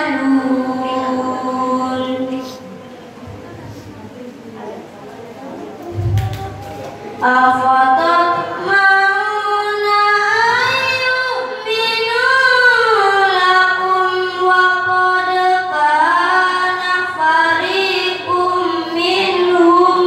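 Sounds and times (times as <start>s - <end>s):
boy reciting melodically: 0.0s - 3.9s, 5.8s - 20.0s.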